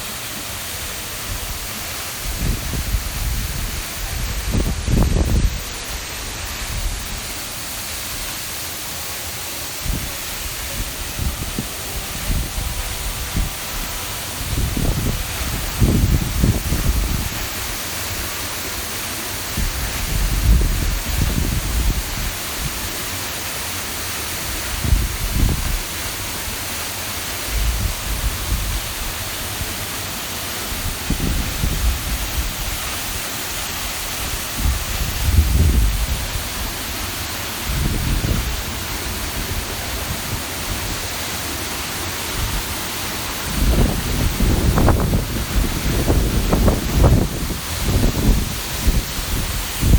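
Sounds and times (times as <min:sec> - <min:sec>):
water rushing in a gorge: 0:00.0 - 0:49.9.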